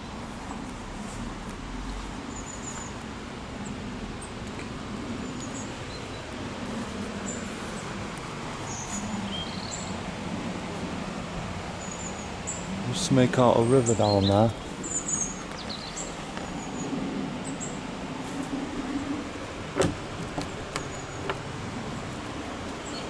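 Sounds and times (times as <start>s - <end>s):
outdoor background hiss: 0.0s - 23.0s
small birds chirping: 1.9s - 10.2s, 11.6s - 23.0s.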